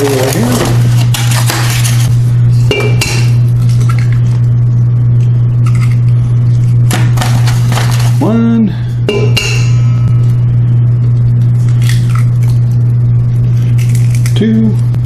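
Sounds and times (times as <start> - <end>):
loud steady low hum: 0.0 - 15.0.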